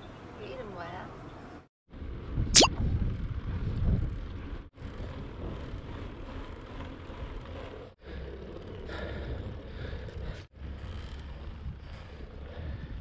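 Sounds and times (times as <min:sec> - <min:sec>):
wind buffeting microphone: 0:01.9 - 0:13.0.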